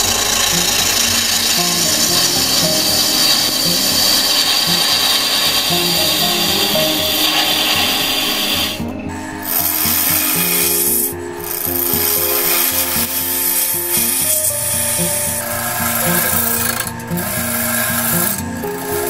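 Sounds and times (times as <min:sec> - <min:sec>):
lathe tool scraping wood: 0:00.0 - 0:19.0.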